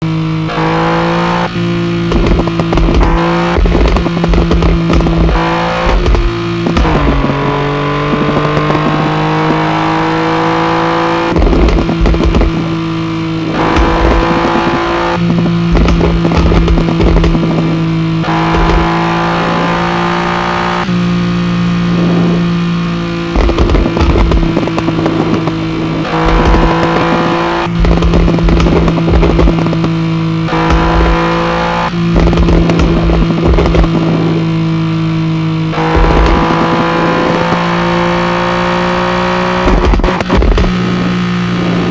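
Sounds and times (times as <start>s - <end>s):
car engine idling and revving: 0.0s - 41.9s
exhaust crackling and popping: 0.0s - 41.9s.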